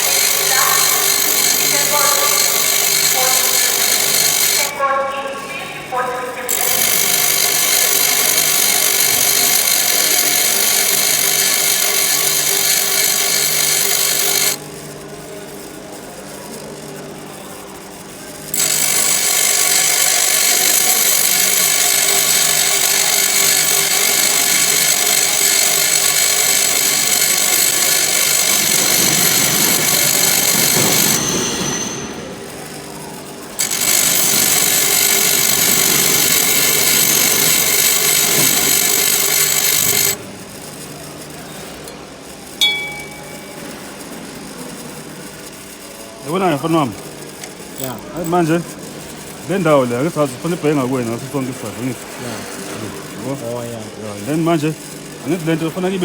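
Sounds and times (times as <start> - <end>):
grinder motor hum: 0.0 - 4.8, 5.6 - 56.0
grinding wheel on steel: 0.0 - 4.8, 6.3 - 14.7, 18.4 - 40.6, 46.2 - 56.0.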